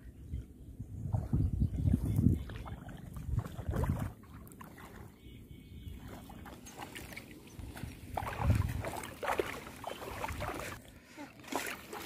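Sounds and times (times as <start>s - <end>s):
water sloshing and splashing: 1.1s - 5.2s, 5.9s - 12.0s.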